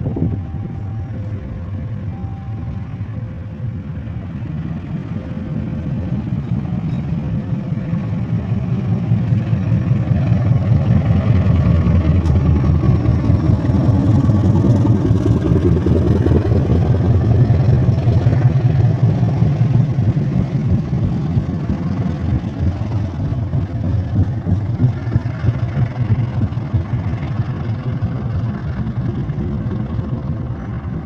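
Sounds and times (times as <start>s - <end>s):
locomotive diesel engine rumbling: 0.0s - 31.0s.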